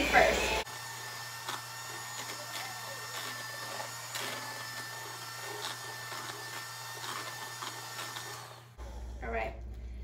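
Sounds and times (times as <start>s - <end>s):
electric hand mixer whirring: 0.0s - 8.8s.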